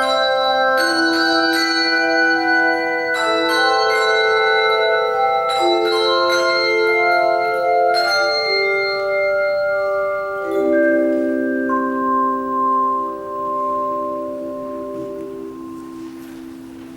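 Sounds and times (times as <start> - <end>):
handbells ringing: 0.0 - 16.9.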